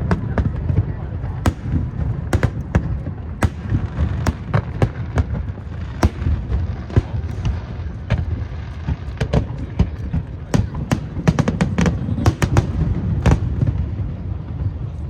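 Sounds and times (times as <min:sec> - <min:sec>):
fireworks bangs: 0:00.0 - 0:14.9.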